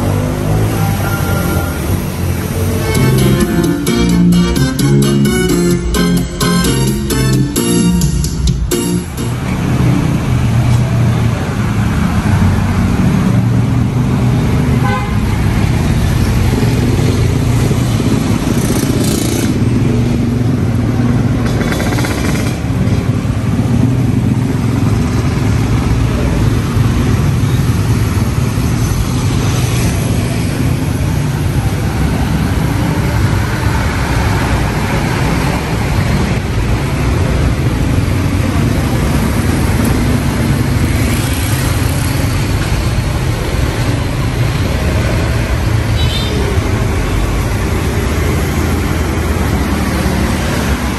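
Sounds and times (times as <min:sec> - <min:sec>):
passing cars and motorcycles: 0:00.0 - 0:03.7, 0:09.3 - 0:50.9.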